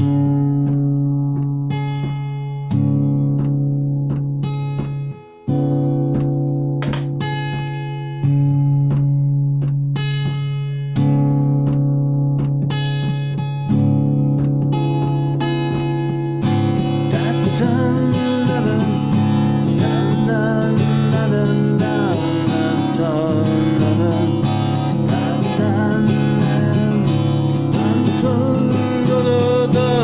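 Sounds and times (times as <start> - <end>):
plucked guitar music: 0.0 - 30.0.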